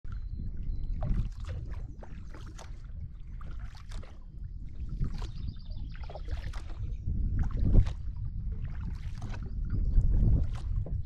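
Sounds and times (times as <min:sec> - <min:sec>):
paddle splashing in water: 0:00.4 - 0:11.0.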